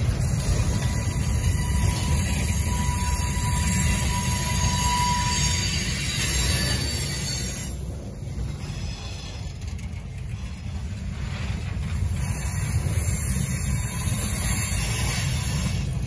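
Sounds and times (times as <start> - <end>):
train wheels rumbling on rail: 0.0 - 16.0
wheel squeal: 0.0 - 16.0.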